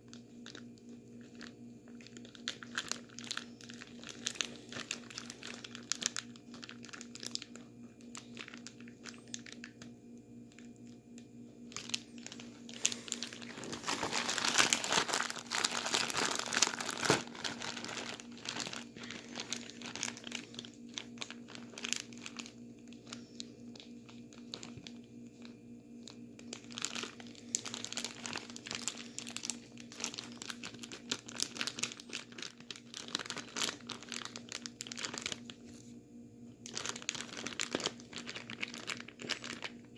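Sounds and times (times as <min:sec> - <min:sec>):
plastic bag crinkling: 0:00.0 - 0:11.0, 0:11.6 - 0:35.9, 0:36.6 - 0:39.9.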